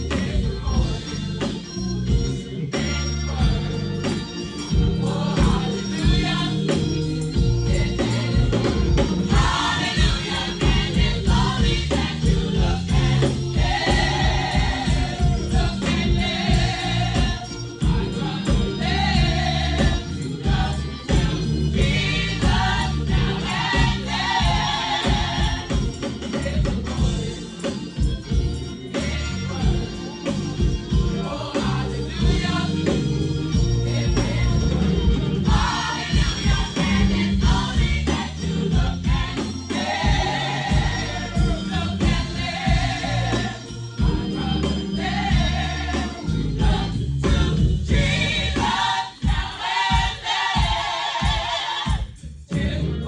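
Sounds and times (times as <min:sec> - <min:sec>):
church band playing: 0:00.0 - 0:53.0
gospel choir singing: 0:00.0 - 0:53.0
tambourine shaking: 0:00.0 - 0:53.0.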